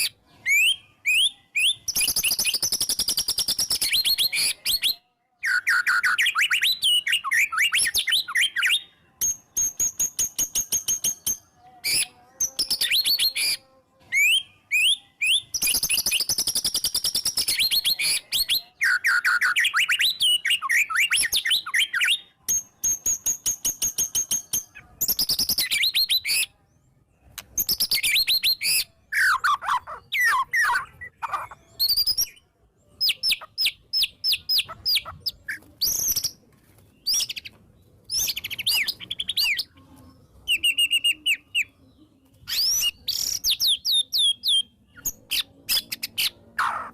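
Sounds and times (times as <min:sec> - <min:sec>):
bird singing: 0:00.0 - 0:46.9.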